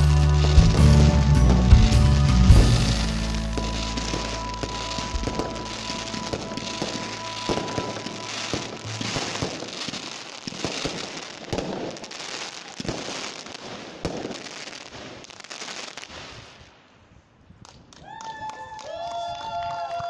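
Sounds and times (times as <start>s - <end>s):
fireworks sharp bangs: 0.0s - 17.1s
fireworks crackling: 0.0s - 18.1s.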